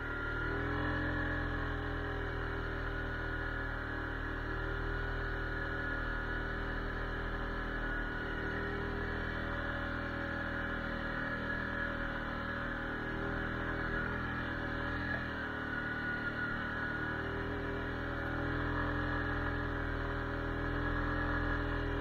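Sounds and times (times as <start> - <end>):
quad bike engine running: 0.0 - 22.0.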